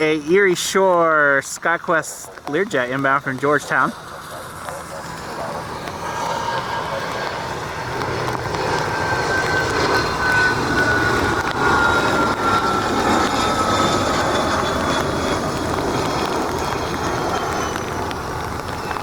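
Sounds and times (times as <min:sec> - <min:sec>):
jet engines passing on landing: 0:00.0 - 0:19.0.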